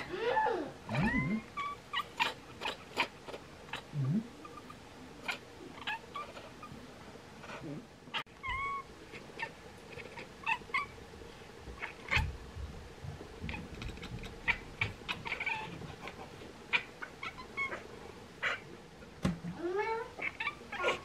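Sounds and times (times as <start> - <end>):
cats chattering: 0.0 - 11.0, 11.7 - 12.4, 13.3 - 18.8, 19.6 - 21.0.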